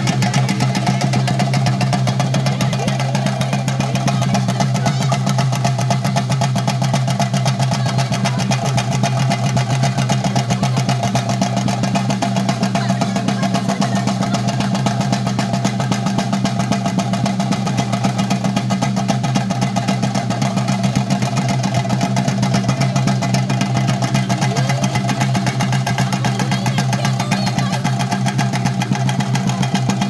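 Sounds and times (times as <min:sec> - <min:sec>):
fast drum roll: 0:00.0 - 0:30.0.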